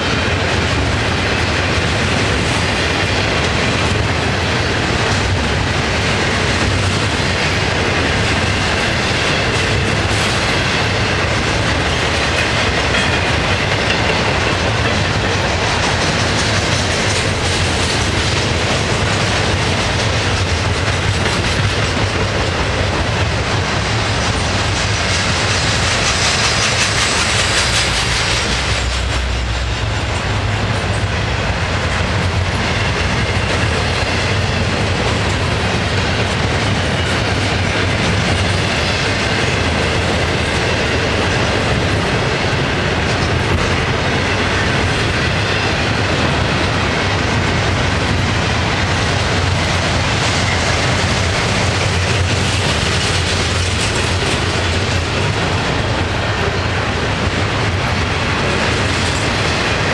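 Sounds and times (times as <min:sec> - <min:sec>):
train wheels clickety-clack: 0:00.0 - 0:59.9.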